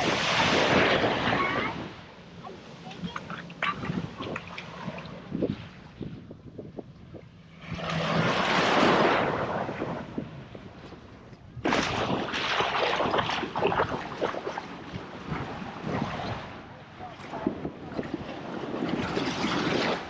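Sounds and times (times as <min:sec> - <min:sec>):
surf rushing: 0:00.0 - 0:05.9, 0:07.4 - 0:20.0
wind buffeting microphone: 0:00.0 - 0:20.0.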